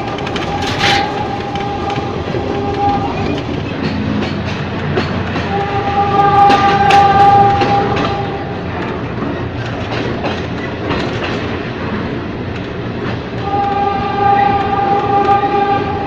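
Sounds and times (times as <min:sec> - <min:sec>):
wheels clicking over rail joints: 0:00.0 - 0:15.7
train rumble: 0:00.0 - 0:16.0.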